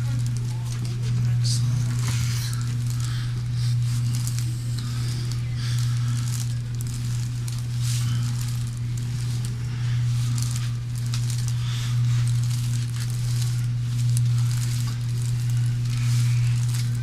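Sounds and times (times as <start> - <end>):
body and clothing rustling: 0.0 - 17.0
steady low hum: 0.0 - 17.0.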